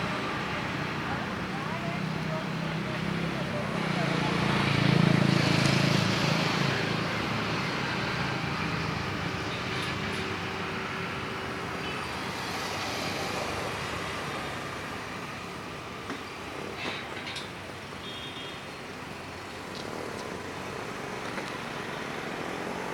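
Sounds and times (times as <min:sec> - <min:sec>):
traffic noise: 0:00.0 - 0:22.9.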